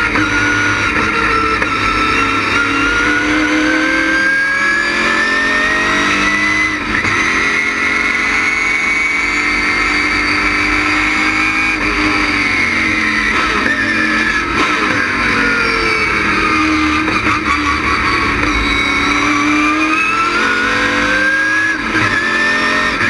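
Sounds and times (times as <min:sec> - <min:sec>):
race engine revving: 0:00.0 - 0:23.0.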